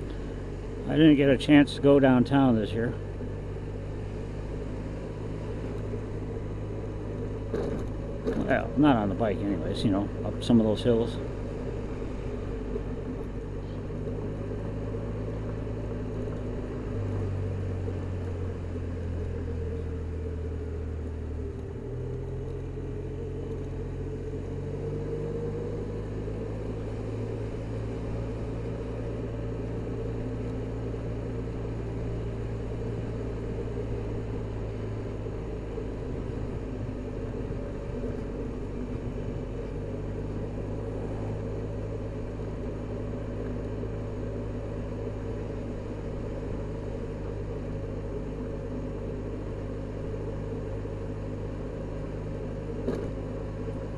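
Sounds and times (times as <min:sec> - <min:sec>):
road and wind noise: 0:00.0 - 0:53.9
scooter engine humming: 0:00.0 - 0:53.9.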